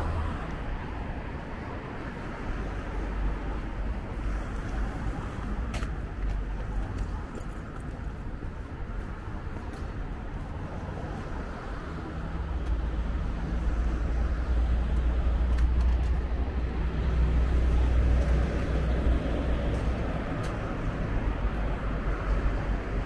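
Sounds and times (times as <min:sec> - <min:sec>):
street traffic noise: 0:00.0 - 0:23.0.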